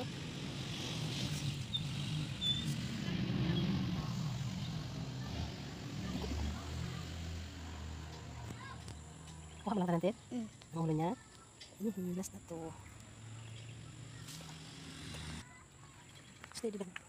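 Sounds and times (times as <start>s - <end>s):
vehicle engine rumble: 0.0s - 16.7s.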